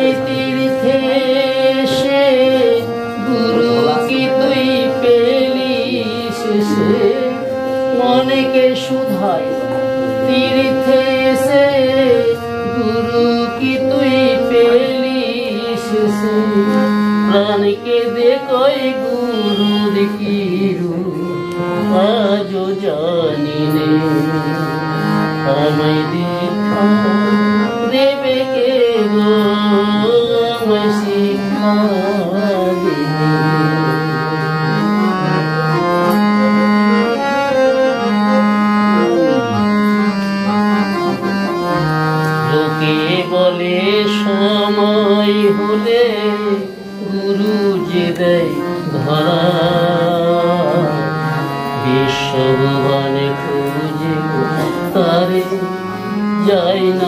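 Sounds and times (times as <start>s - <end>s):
harmonium: 0.0s - 57.0s
tabla playing: 0.0s - 57.0s.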